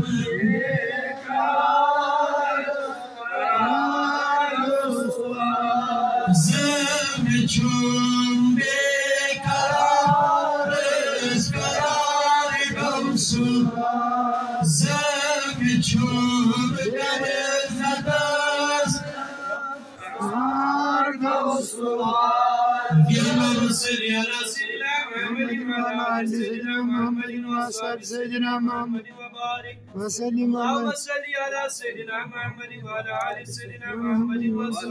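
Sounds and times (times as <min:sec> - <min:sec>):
man singing a chant: 0:00.0 - 0:34.9.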